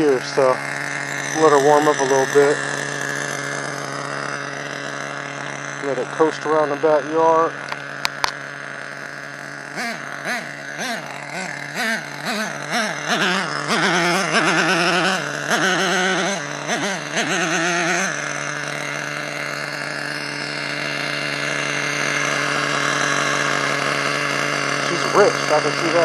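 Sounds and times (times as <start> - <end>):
nitro engine revving and idling: 0.0 - 26.0.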